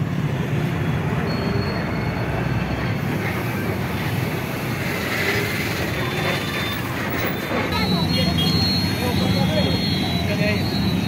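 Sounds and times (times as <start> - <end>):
buses and motorbikes passing: 0.0 - 11.0
road traffic rumble: 0.0 - 11.0.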